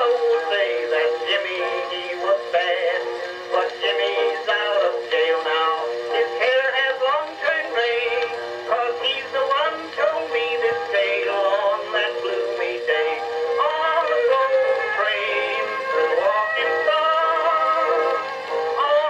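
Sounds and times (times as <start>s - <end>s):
instrumental accompaniment: 0.0s - 19.0s
man singing on old recording: 0.0s - 19.0s.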